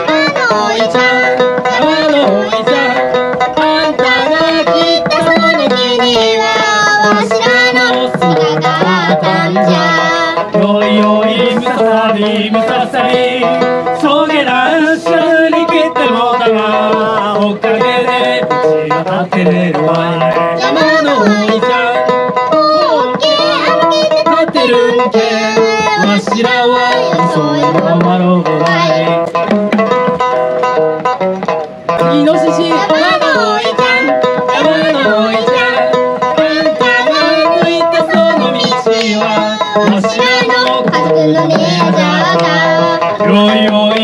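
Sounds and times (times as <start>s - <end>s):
hand drum beats: 0.0s - 44.0s
people singing folk song: 0.0s - 44.0s
plucked lute: 0.0s - 44.0s.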